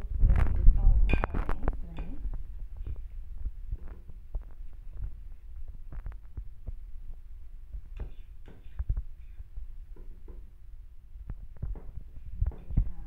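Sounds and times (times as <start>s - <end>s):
faint steady hum: 0.0s - 13.0s
soft low thumps: 0.0s - 13.0s.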